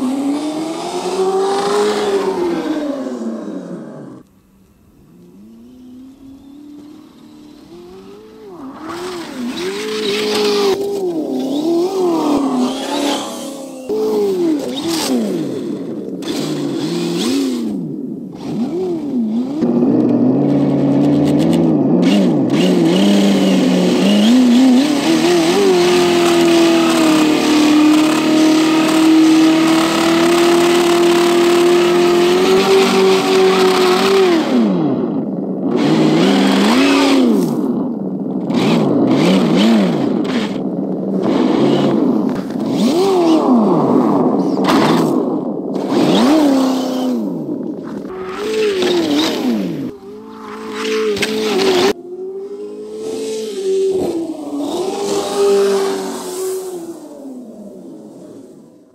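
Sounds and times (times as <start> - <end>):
simulated engine revving from speaker: 0.0 - 4.2, 5.2 - 58.7.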